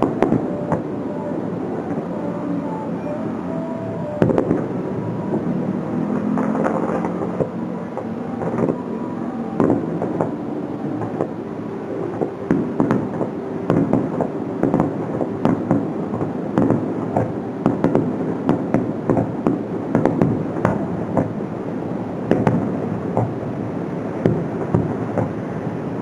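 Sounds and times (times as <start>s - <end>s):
fireworks bursting: 0.0s - 26.0s
rumble of echoes: 0.0s - 26.0s.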